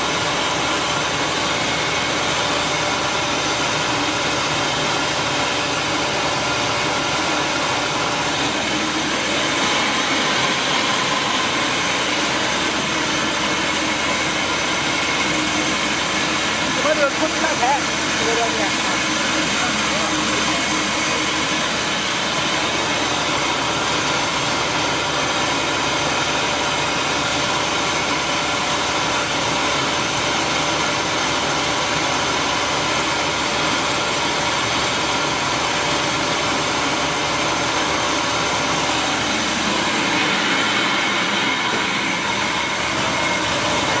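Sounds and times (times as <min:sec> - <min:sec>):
milling machinery running: 0:00.0 - 0:44.0.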